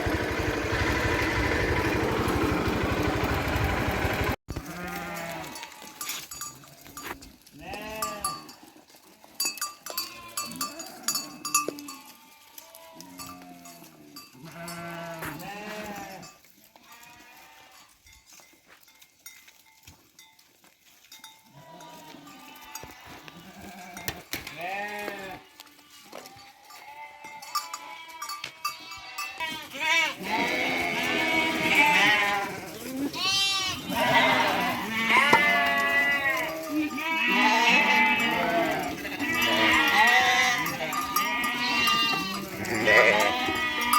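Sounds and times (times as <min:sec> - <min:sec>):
sheep bleating: 0:04.1 - 0:17.9, 0:21.5 - 0:43.9.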